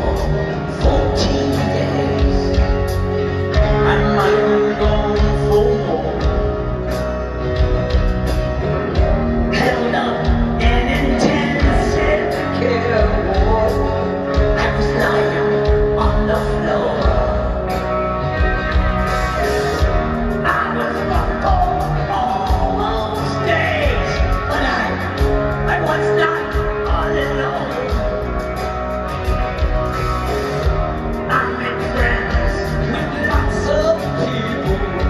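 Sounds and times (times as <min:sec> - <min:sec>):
lead singer: 0:00.0 - 0:35.0
live rock band playing: 0:00.0 - 0:35.0.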